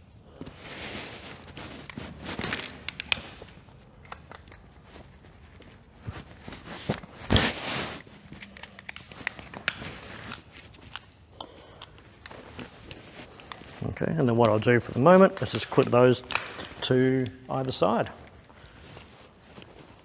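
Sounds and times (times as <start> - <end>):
rope and webbing rustling: 0.4 - 11.3, 11.9 - 20.0.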